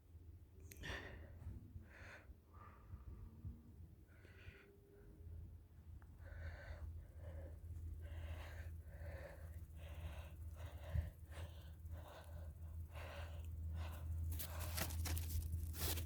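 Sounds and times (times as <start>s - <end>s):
low steady rumble: 0.0s - 16.0s
rhythmic panting breaths: 0.9s - 16.0s.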